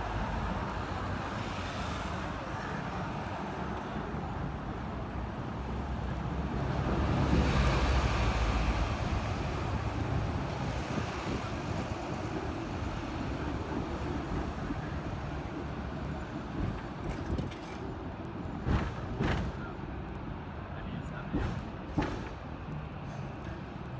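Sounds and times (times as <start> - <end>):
road traffic: 0.0 - 23.9
tram rolling rumble: 0.0 - 23.9.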